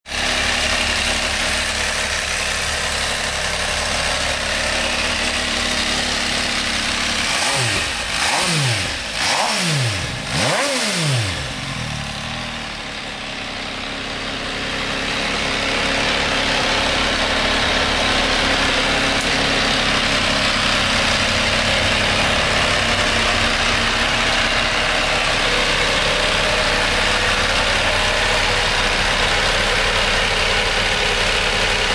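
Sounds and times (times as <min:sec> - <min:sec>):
motorcycle engine idling: 0:00.1 - 0:31.9.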